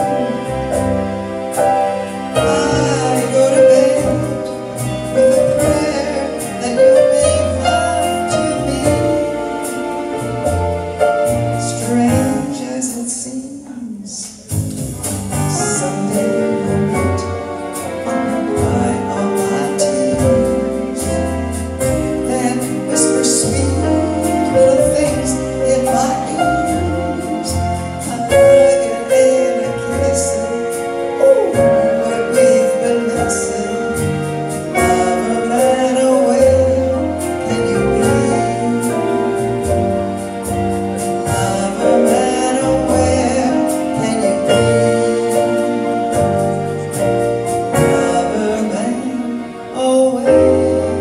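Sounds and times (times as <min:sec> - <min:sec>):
slow jazz ballad: 0:00.0 - 0:51.0.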